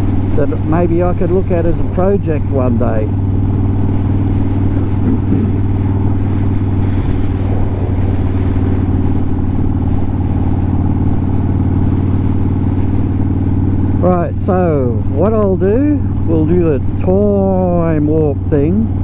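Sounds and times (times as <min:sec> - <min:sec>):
motorcycle engine droning: 0:00.0 - 0:19.0.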